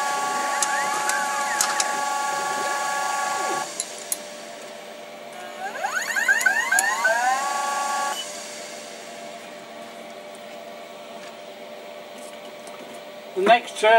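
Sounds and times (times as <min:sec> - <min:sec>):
lathe motor whine: 0:00.0 - 0:12.0
machine hum: 0:00.0 - 0:13.5.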